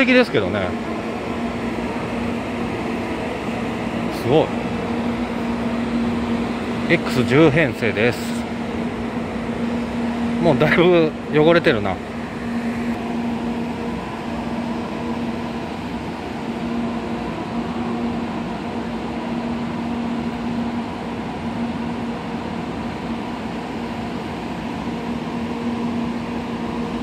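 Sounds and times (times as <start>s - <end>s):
train humming with low drone: 0.0s - 27.0s.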